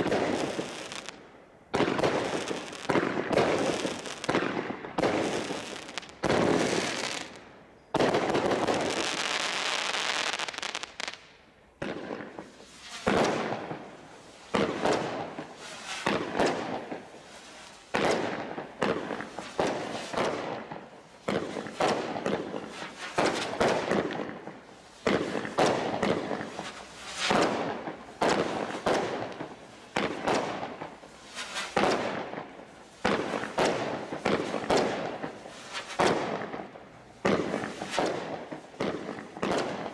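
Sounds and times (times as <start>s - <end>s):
firework bangs: 0.0s - 39.9s
fireworks crackling hiss: 0.0s - 39.9s.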